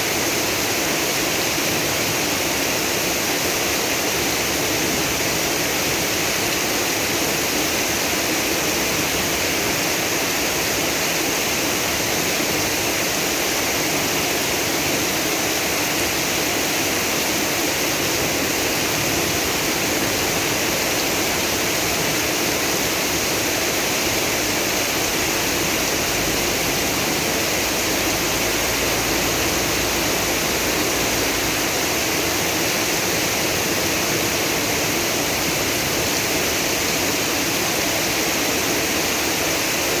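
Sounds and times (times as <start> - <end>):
heavy rain pouring: 0.0 - 40.0
rainwater flowing across street: 0.0 - 40.0.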